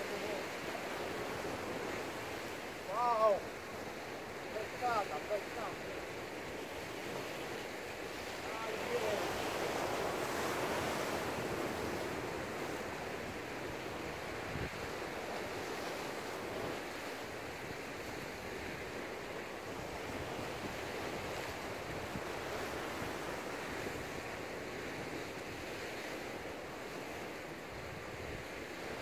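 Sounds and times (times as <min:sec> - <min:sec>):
sea surf washing against rocks: 0:00.0 - 0:29.0.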